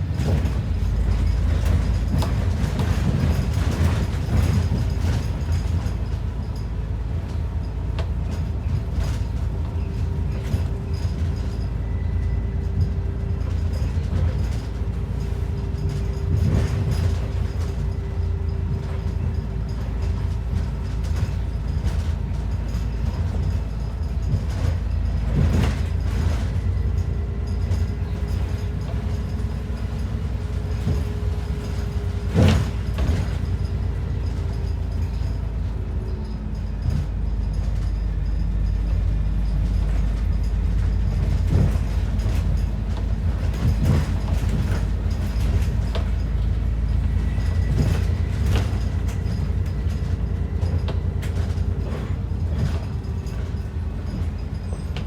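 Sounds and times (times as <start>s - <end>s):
bodywork rattles and creaks: 0.0s - 55.0s
bus engine drone with whine: 0.0s - 55.0s.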